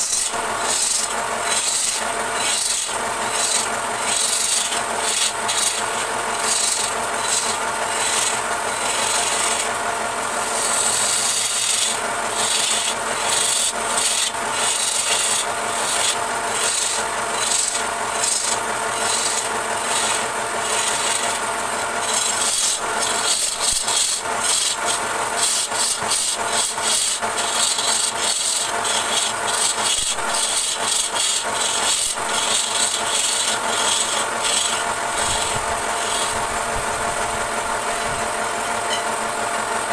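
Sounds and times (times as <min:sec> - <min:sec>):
lathe tool scraping wood: 0:00.0 - 0:39.9
machine hum: 0:00.0 - 0:39.9.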